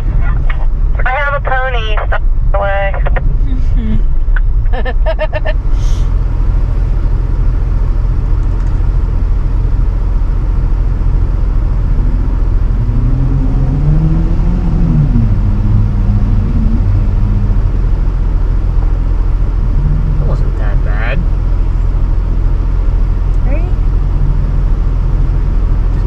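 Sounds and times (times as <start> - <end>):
off-road vehicle engine rumble: 0.0 - 26.0.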